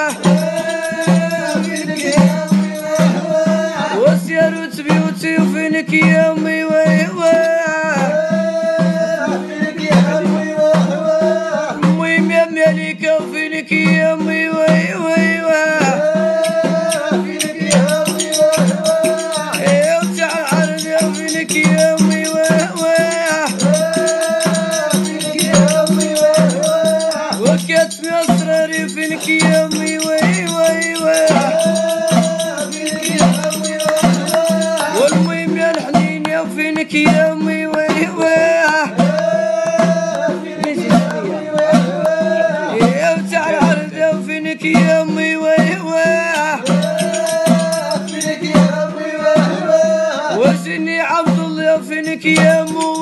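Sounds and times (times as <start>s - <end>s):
man singing: 0.0s - 53.0s
shaking rattle percussion: 0.0s - 53.0s.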